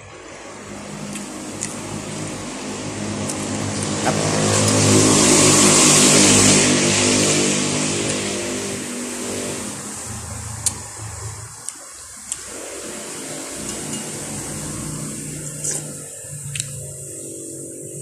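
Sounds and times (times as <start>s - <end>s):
vehicle engine passing by: 0.1s - 11.6s, 12.5s - 18.0s.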